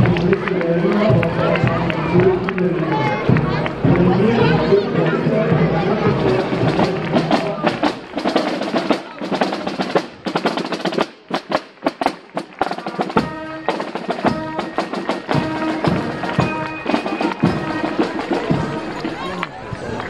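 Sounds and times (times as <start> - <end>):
marching snare drums: 0.0 - 19.3
crowd chatter: 0.0 - 20.0
wind instruments holding notes: 0.0 - 20.0.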